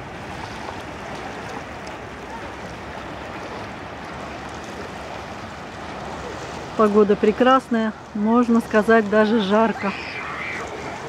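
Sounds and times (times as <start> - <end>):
small waves washing at shore: 0.0 - 11.0.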